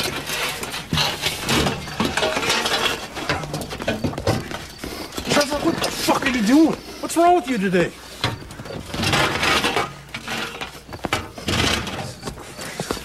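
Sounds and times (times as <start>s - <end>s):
junk clinking and clattering: 0.0s - 6.8s, 8.2s - 13.0s.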